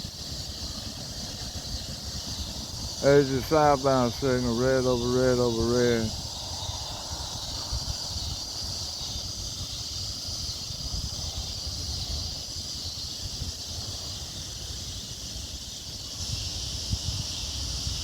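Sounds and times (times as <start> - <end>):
insect chorus buzzing: 0.0 - 18.0
wind rumble on microphone: 0.0 - 18.0.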